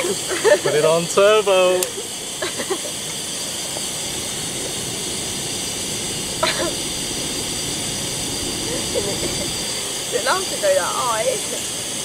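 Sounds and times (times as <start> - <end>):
gas stove burner hissing: 0.0 - 12.0.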